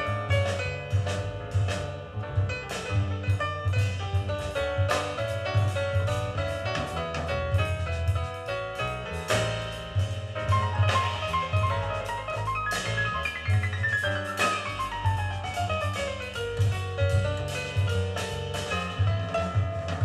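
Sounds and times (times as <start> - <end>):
jazz record: 0.0 - 20.0.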